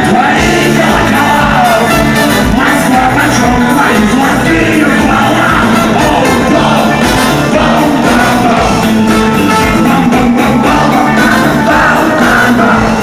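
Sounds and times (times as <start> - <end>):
band music: 0.0 - 13.0
drums keeping a steady beat: 0.0 - 13.0.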